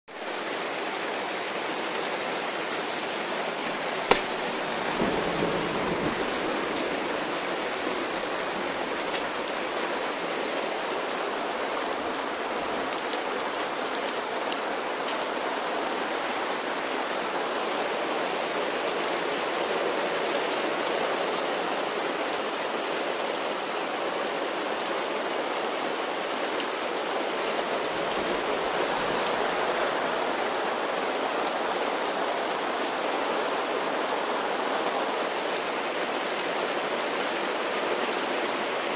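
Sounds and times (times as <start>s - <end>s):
rain falling: 0.1s - 38.9s.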